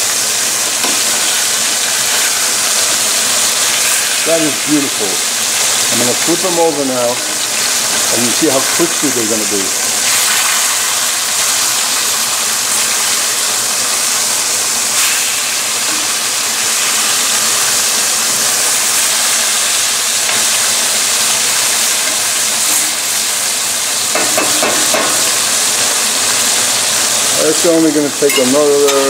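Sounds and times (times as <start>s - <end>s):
chicken frying in hot oil: 0.0s - 29.0s
kitchen exhaust fan running: 0.0s - 29.0s.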